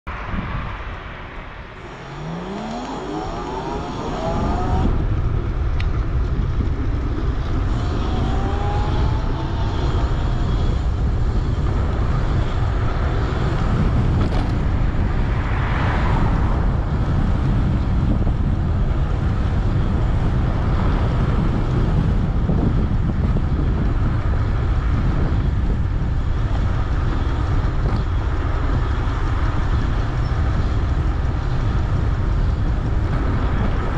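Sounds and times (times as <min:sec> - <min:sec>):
wind buffeting microphone: 0:00.1 - 0:33.9.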